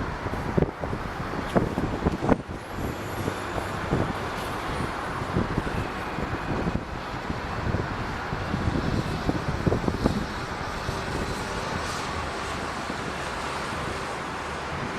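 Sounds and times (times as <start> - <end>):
jet engine roar: 0.0 - 14.9
wind gusts on microphone: 0.0 - 14.9.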